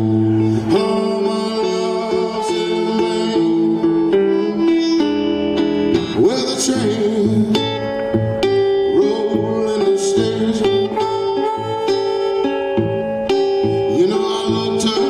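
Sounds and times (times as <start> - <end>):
harmonica long notes: 0.0 - 15.0
resonator guitar plucking: 0.0 - 15.0.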